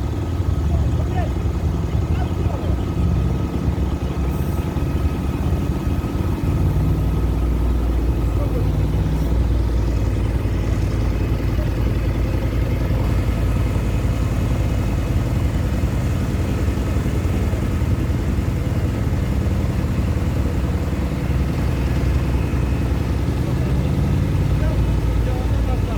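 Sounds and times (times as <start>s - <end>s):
engine low rumble: 0.0s - 25.9s.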